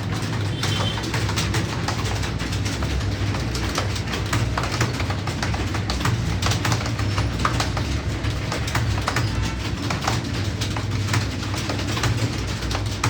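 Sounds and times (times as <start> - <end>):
keyboards clattering: 0.0 - 13.0.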